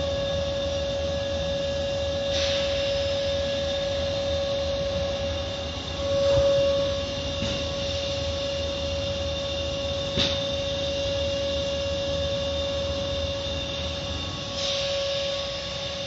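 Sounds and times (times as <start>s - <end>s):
car wash machinery humming: 0.0s - 16.0s
high whine: 0.0s - 16.0s.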